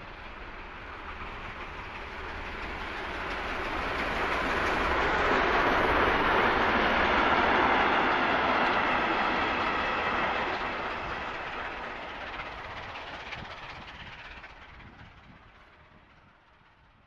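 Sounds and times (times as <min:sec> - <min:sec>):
train rattling: 0:00.0 - 0:17.0.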